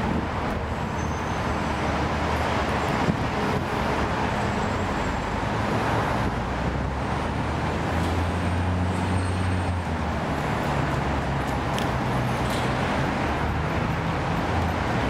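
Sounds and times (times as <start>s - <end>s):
road vehicles rumbling: 0.0s - 15.0s.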